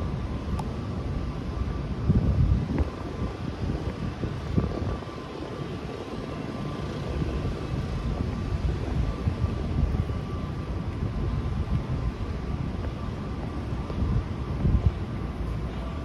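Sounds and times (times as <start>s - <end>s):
city background rumble: 0.0s - 16.0s
faint steady whine: 0.0s - 16.0s.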